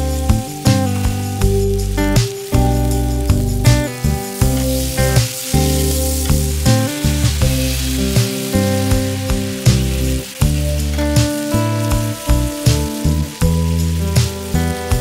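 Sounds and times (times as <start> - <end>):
background music with beat: 0.0 - 15.0
steak sizzling: 0.0 - 15.0.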